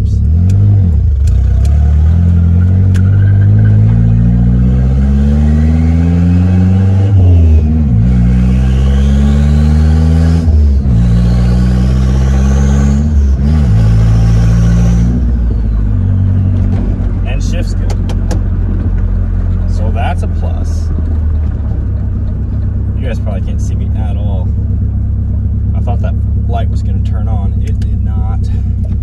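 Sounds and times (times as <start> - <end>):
pickup engine accelerating and shifting: 0.0 - 29.0.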